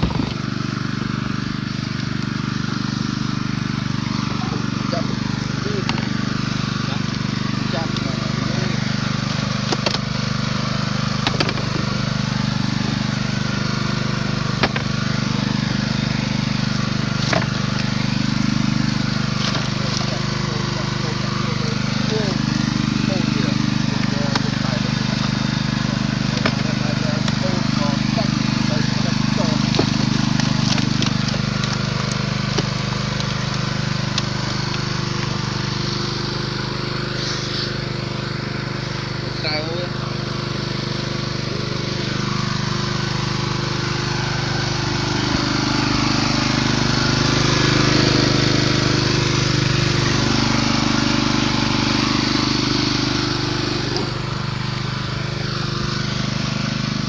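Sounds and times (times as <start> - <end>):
small engine running: 0.0 - 57.0
steady motor hum: 0.0 - 57.0.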